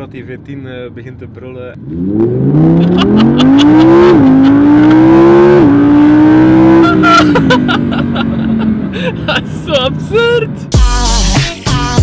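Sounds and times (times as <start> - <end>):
car engine accelerating with upshifts: 1.2 - 11.2.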